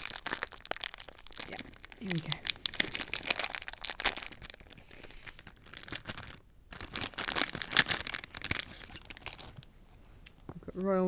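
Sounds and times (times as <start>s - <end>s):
foil bag crinkling and tearing: 0.0s - 9.7s.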